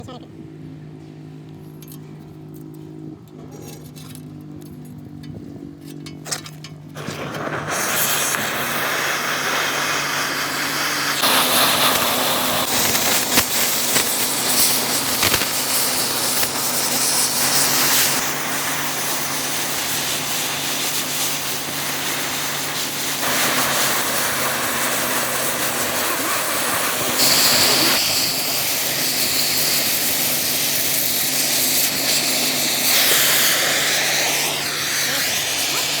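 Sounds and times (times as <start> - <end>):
cutting torch hissing: 7.0 - 36.0.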